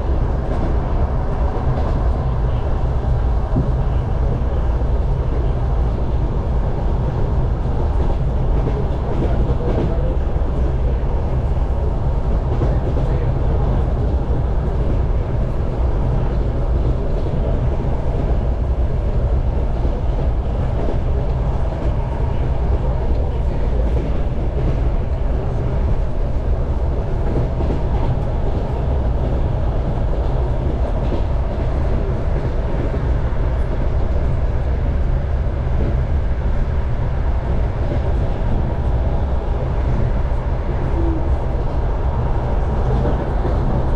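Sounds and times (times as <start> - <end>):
train carriage rumble: 0.0 - 43.9.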